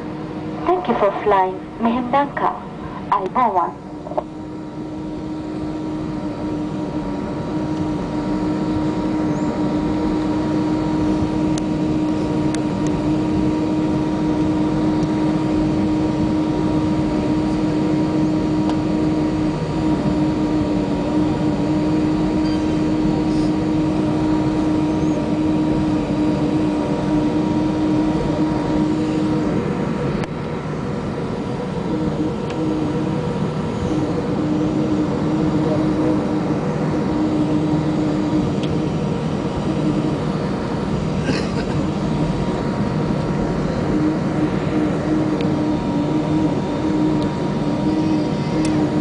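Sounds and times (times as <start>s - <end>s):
constant low hum: 0.0s - 49.0s
jet engines cabin drone: 0.0s - 49.0s.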